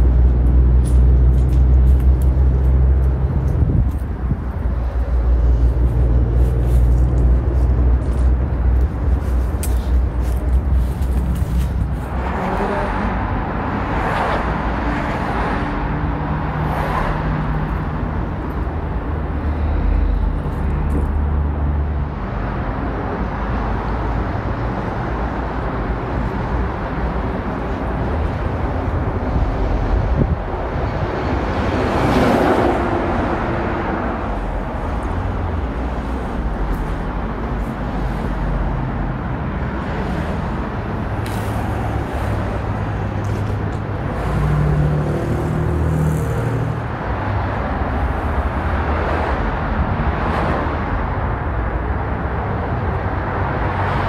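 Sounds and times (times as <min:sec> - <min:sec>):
road traffic rumble: 0:00.0 - 0:54.0
vehicles passing: 0:00.0 - 0:54.0.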